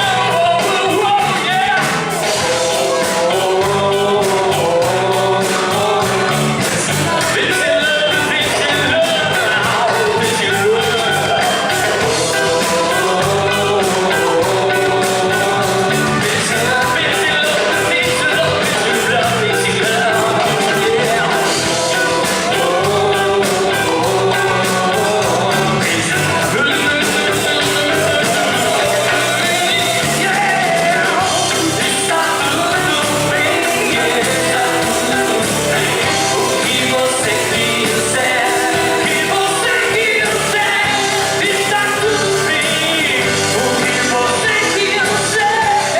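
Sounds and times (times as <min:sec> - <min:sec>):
band playing a song: 0:00.0 - 0:45.9
bass: 0:00.0 - 0:45.9
person singing: 0:00.0 - 0:45.9
steady drum beat: 0:00.0 - 0:45.9.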